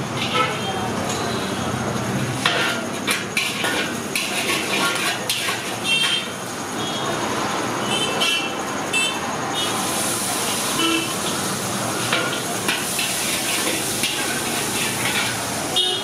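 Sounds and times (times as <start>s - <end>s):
chicken sizzling in a wok: 0.0s - 8.4s, 9.6s - 16.0s.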